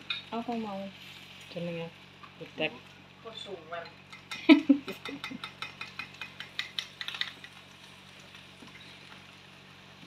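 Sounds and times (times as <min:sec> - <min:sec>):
steak sizzling and crackling: 0:00.0 - 0:10.0.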